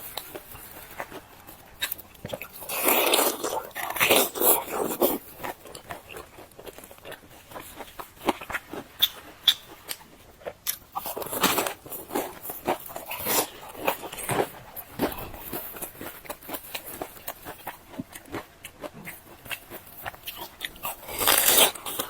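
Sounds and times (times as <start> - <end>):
crisp crunches of chewing: 0.0 - 22.0.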